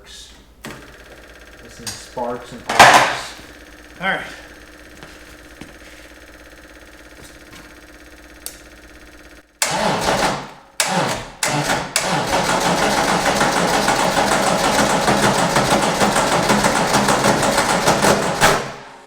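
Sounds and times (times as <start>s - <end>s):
starter motor cranking engine: 0.6s - 19.0s.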